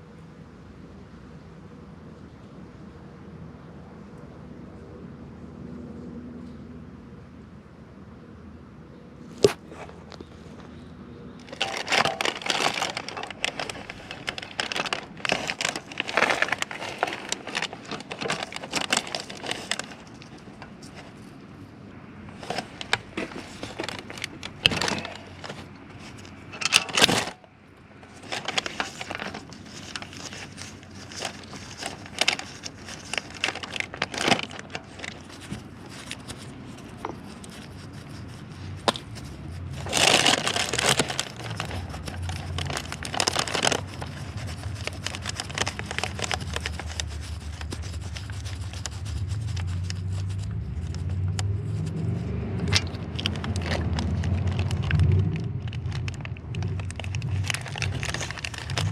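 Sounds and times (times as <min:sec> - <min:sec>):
rustling and crinkling: 0:09.3 - 0:58.9.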